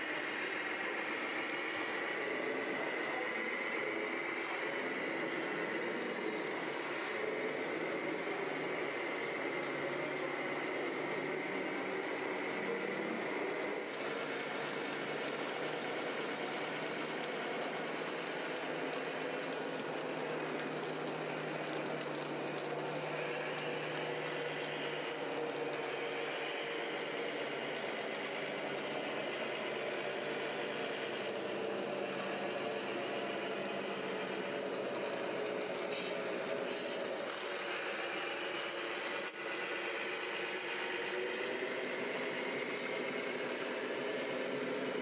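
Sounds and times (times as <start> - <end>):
model truck motors whining: 0.0 - 45.0.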